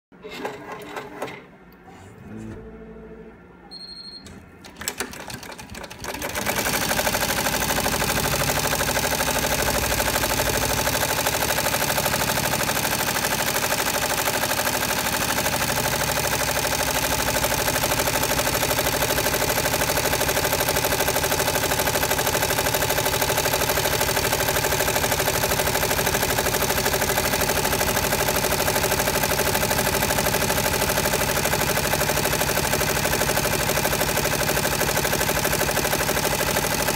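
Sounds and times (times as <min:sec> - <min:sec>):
embroidery machine stitching: 0:04.6 - 0:36.9.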